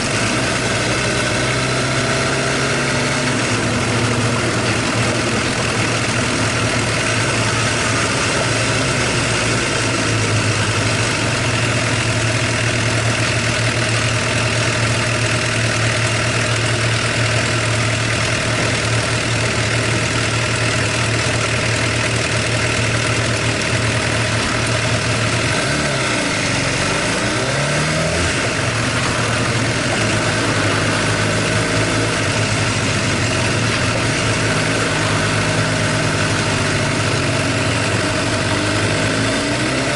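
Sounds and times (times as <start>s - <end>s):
engine tappet noise: 0.0s - 39.9s
motorcycle engine idling: 0.0s - 39.9s.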